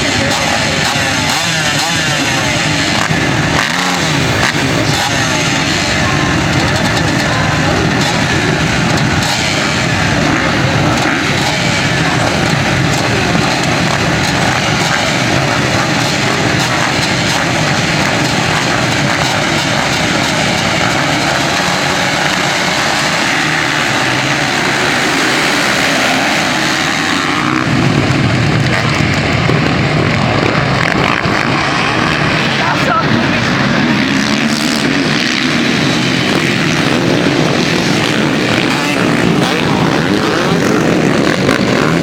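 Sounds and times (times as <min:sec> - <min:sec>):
motocross motorcycles racing: 0:00.0 - 0:42.0.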